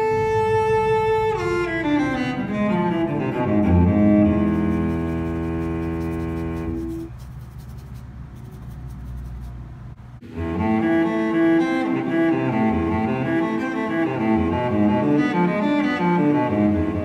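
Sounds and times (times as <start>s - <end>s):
instrumental music: 0.0s - 9.4s, 10.2s - 17.0s.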